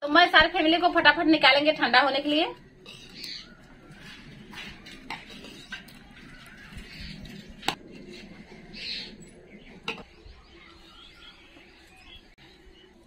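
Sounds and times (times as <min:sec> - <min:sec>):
birds chirping faintly: 0:02.1 - 0:13.0.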